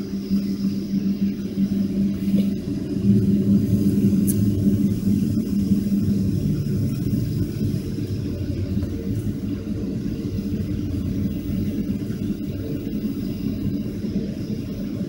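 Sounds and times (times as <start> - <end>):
jet engines rumbling inside cabin: 0.0 - 15.0.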